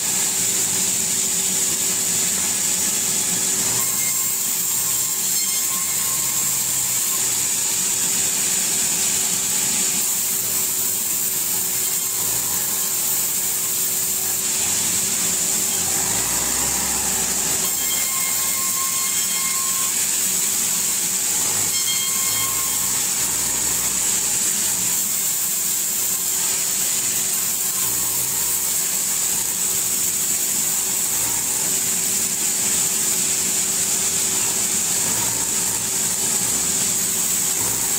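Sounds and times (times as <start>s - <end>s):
sawmill saw whining: 0.0s - 37.9s.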